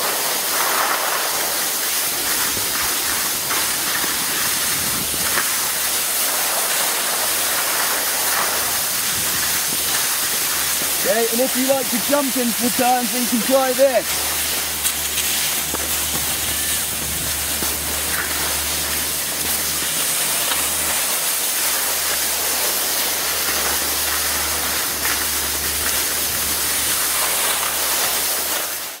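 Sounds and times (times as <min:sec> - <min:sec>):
skis sliding over snow: 0:00.0 - 0:29.0.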